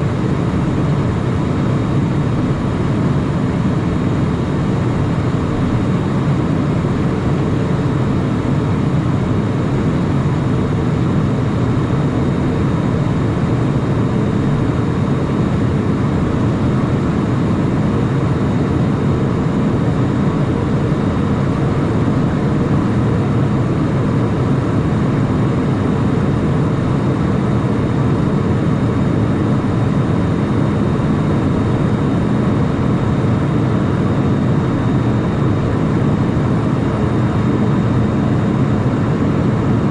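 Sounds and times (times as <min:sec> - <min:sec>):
jet cabin airflow and engine noise: 0:00.0 - 0:39.9.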